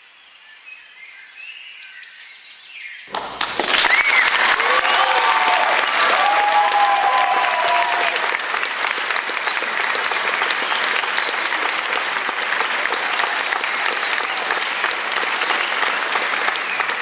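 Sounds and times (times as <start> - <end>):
audience applauding: 3.1 - 17.0.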